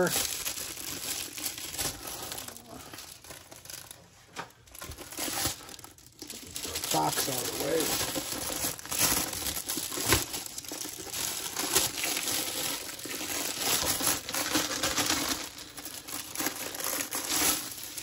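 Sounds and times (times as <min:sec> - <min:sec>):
plastic cover crinkling: 0:00.0 - 0:18.0.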